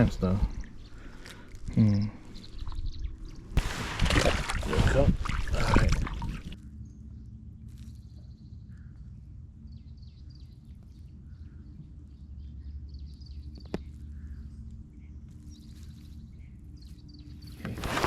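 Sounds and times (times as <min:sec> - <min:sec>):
small birds chirping: 0:00.0 - 0:03.6, 0:06.0 - 0:18.0.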